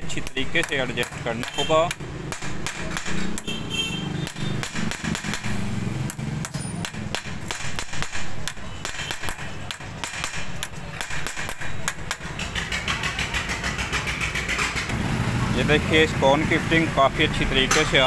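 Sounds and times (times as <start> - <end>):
hammer striking metal: 0.0 - 14.9, 17.6 - 18.0.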